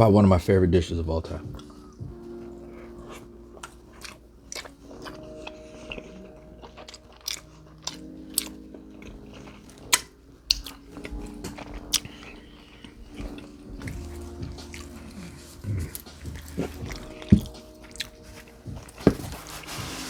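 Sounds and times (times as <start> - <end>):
person chewing: 1.6 - 20.0.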